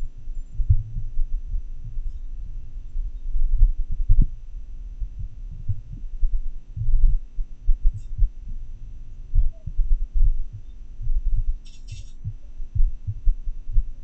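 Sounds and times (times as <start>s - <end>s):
irregular heartbeat thumps: 0.0s - 14.0s.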